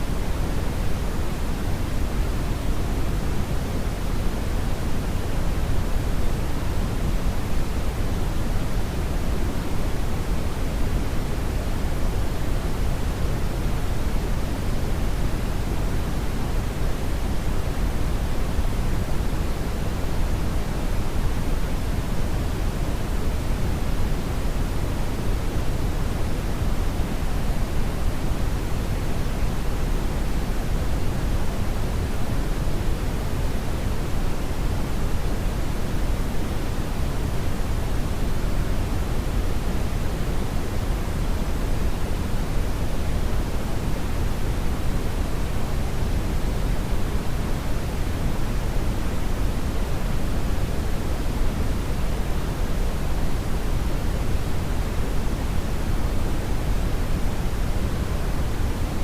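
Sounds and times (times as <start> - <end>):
deep steady noise hiss: 0.0 - 59.0.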